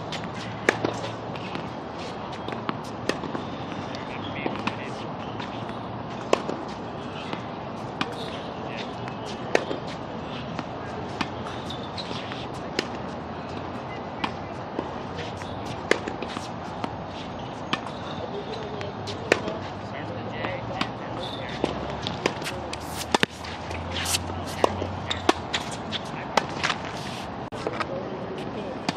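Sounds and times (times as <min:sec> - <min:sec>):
racket hitting tennis ball: 0:00.0 - 0:19.7, 0:20.5 - 0:27.8
steady outdoor hiss: 0:00.0 - 0:28.9.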